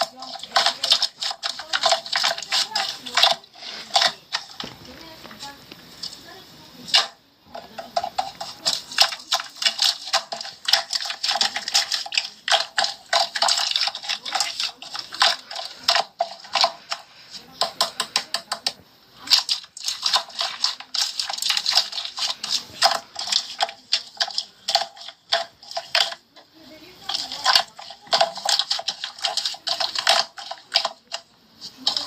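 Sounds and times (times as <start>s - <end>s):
rapid hard clicking and tapping: 0.0s - 4.7s, 6.9s - 26.2s, 27.0s - 32.0s.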